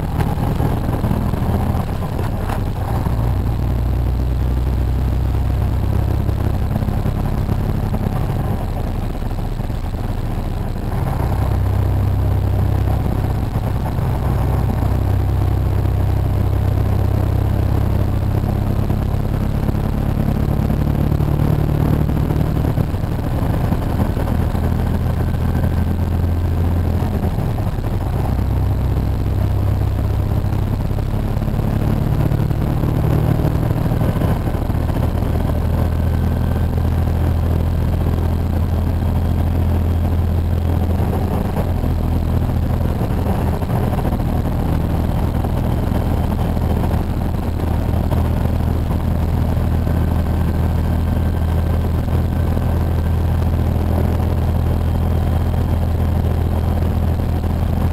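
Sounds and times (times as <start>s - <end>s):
diesel truck engine droning: 0.0s - 57.9s
road noise: 0.0s - 57.9s.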